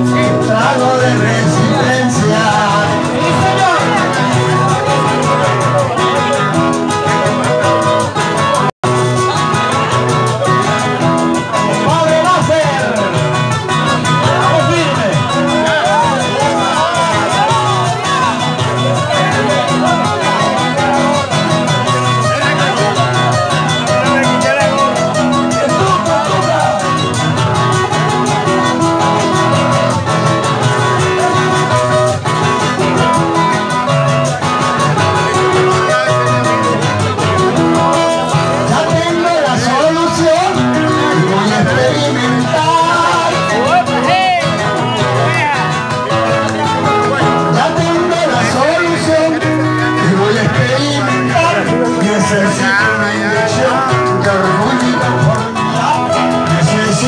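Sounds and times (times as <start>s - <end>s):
acoustic guitars playing merengue: 0.0s - 57.0s
quick high beat: 0.0s - 57.0s.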